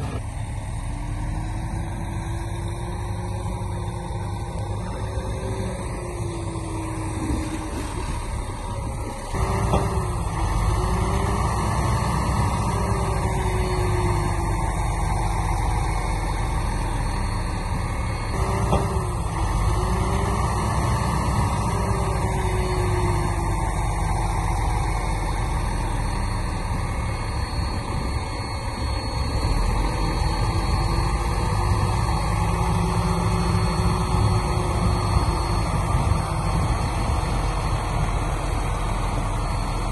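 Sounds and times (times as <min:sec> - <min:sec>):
heavy diesel machinery running: 0:00.0 - 0:39.9
wavering whine: 0:00.0 - 0:39.9.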